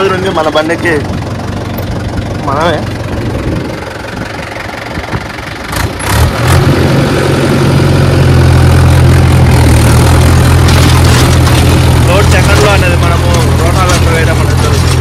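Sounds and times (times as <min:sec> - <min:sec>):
tractor diesel engine: 0:00.0 - 0:15.0.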